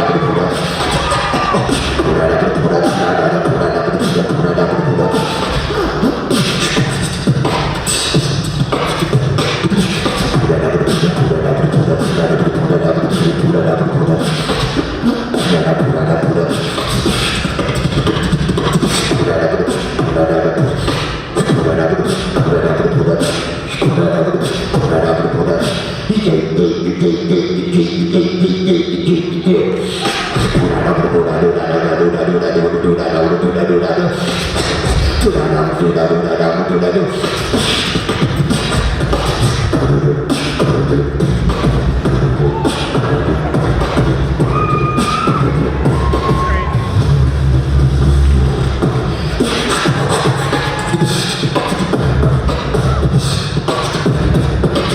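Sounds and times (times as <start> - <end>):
beatbox snare-like vocal hits: 0.0 - 30.9, 33.8 - 46.5, 48.7 - 54.9
hummed beatbox bass lines: 0.0 - 54.9.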